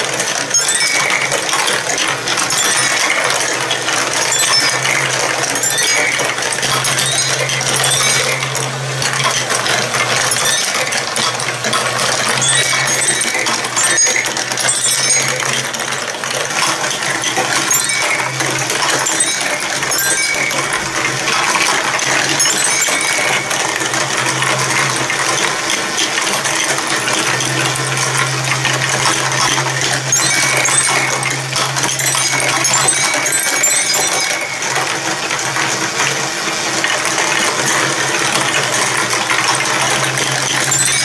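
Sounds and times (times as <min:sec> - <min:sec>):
marbles clattering through plastic tubes: 0:00.0 - 0:41.0
small motor humming: 0:00.0 - 0:41.0.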